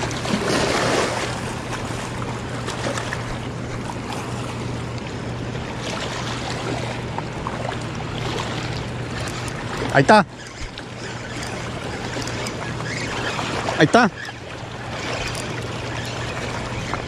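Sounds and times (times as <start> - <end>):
turbulent water rushing: 0.0 - 3.8, 5.7 - 17.0
low hum: 0.0 - 17.0.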